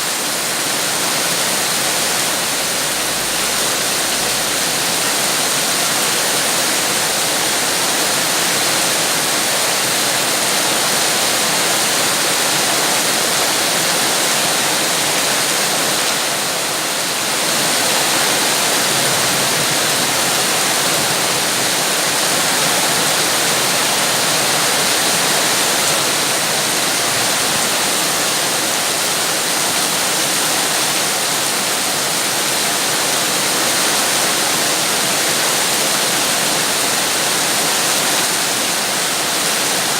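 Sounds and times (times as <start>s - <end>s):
dense rain hissing: 0.1s - 39.9s.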